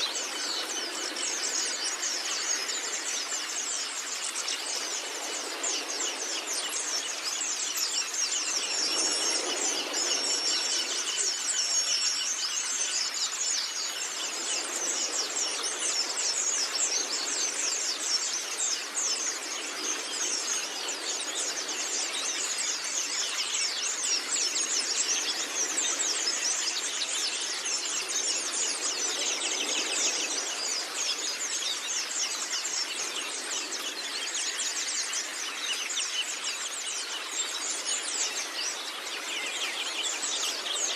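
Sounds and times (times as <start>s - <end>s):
birds chirping and twittering: 0.0s - 40.9s.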